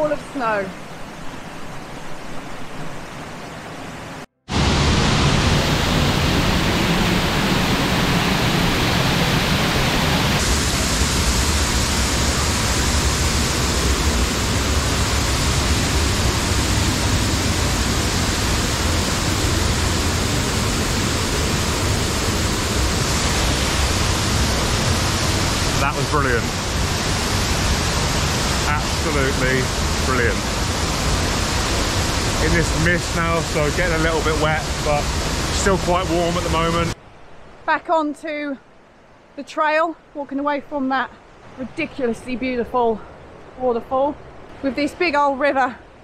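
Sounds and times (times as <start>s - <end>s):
waterfall rushing: 0.0s - 37.6s.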